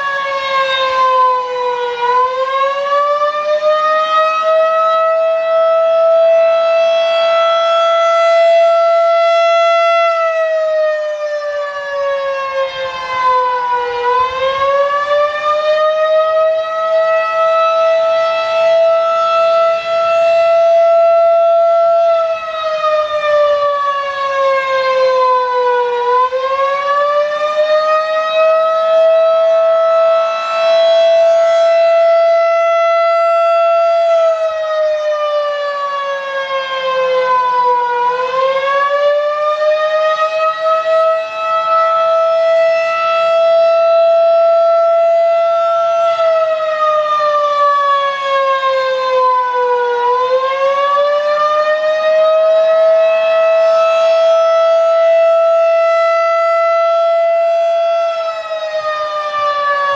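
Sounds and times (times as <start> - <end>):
warning siren: 0.0 - 59.9.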